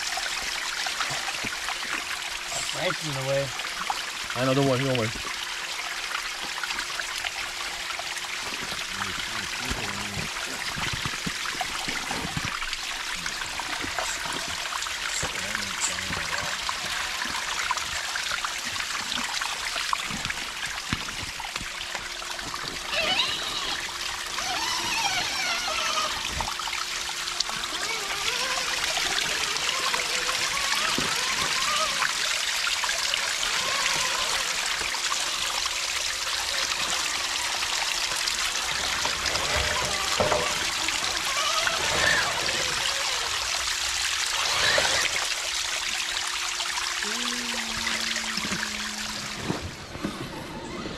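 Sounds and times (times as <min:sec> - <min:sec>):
stream trickling over rocks: 0:00.0 - 0:50.0.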